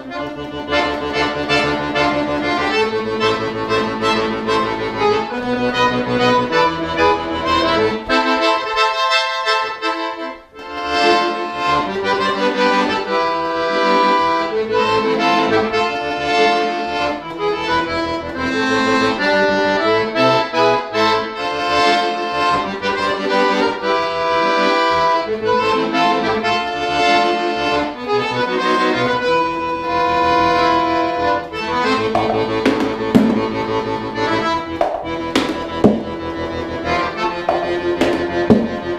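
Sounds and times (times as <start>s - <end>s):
accordion playing: 0.0s - 38.9s.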